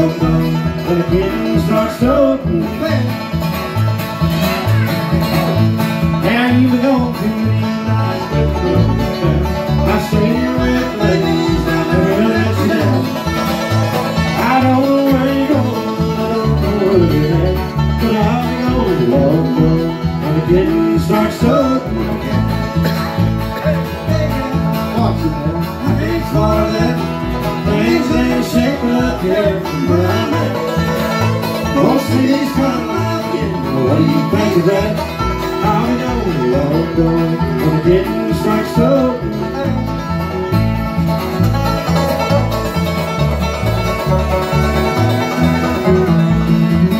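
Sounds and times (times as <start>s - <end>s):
banjo: 0.0s - 46.9s
fiddle melody: 0.0s - 46.9s
strummed acoustic guitar: 0.0s - 46.9s
upright bass walking: 0.0s - 46.9s.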